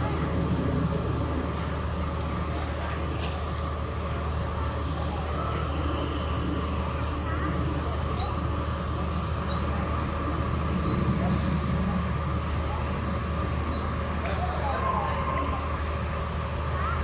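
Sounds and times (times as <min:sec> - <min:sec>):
low background hum: 0:00.0 - 0:17.0
small birds chirping: 0:00.8 - 0:14.9, 0:15.8 - 0:17.0.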